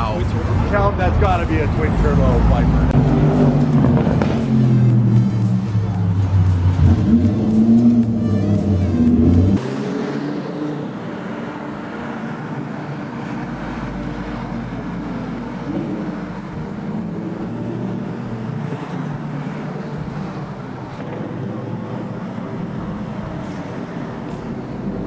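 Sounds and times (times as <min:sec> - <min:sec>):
car engine drone: 0:00.0 - 0:25.0
road noise: 0:00.0 - 0:25.0.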